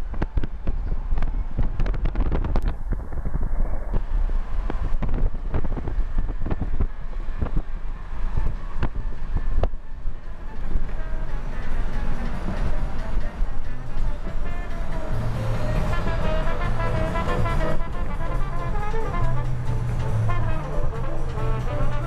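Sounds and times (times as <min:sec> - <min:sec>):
moving car rumble: 0:00.0 - 0:22.0
wind buffeting microphone: 0:00.0 - 0:22.0.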